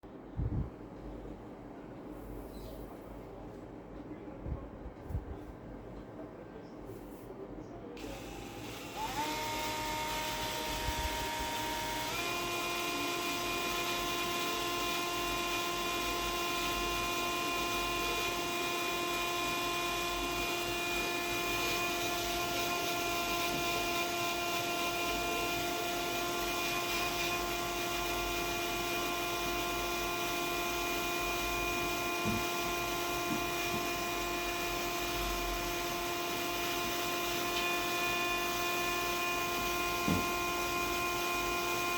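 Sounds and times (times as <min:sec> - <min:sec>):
electric drill motor whining: 0:08.0 - 0:41.9.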